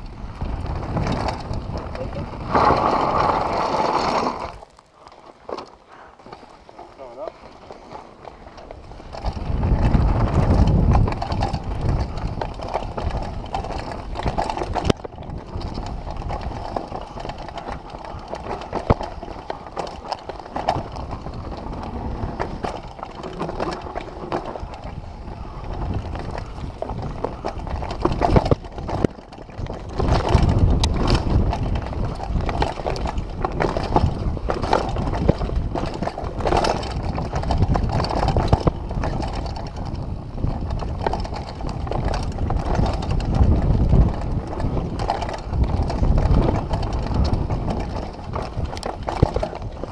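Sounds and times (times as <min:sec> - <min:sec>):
wind buffeting microphone: 0:00.0 - 0:04.6, 0:07.1 - 0:49.9
bike tyres on dirt: 0:00.0 - 0:49.9
chain and frame rattling: 0:08.3 - 0:49.9.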